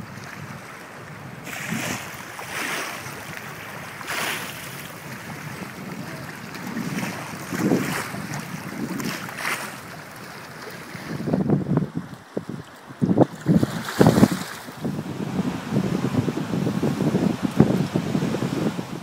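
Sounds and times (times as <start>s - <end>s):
small waves lapping and splashing: 0.0s - 19.0s
wind buffeting microphone: 0.0s - 19.0s.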